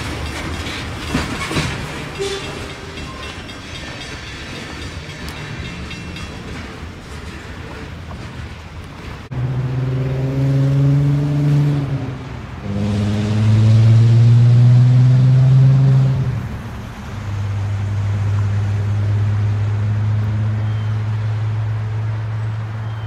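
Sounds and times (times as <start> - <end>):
engine running under load: 0.0 - 23.0.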